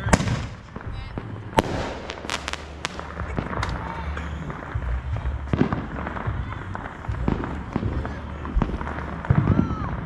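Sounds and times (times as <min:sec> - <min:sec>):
firecracker bangs: 0:00.0 - 0:10.0
low background rumble: 0:00.1 - 0:10.0.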